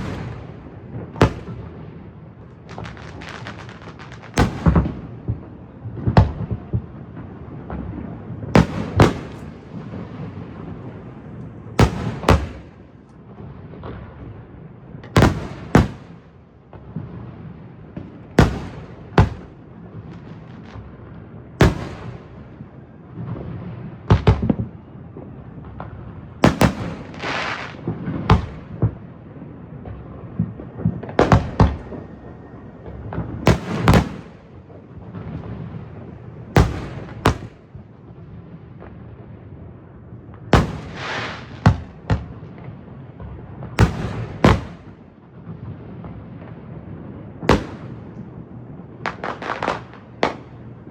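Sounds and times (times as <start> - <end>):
fireworks booming: 0.0 - 50.9.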